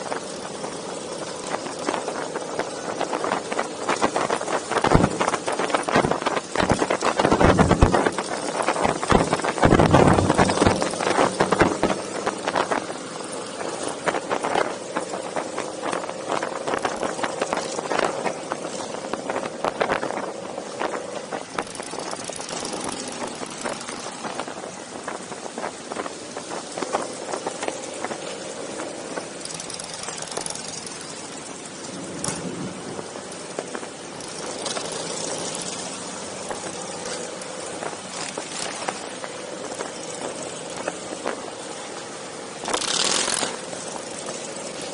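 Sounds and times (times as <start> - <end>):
engine crackles and knocks: 0.0 - 44.9
motorcycle engines humming: 0.0 - 44.9.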